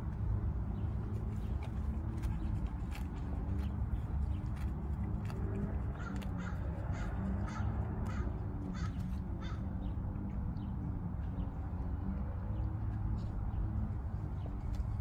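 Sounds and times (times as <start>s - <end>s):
horse tearing and chewing grass: 0.0s - 15.0s
steady low rumble: 0.0s - 15.0s.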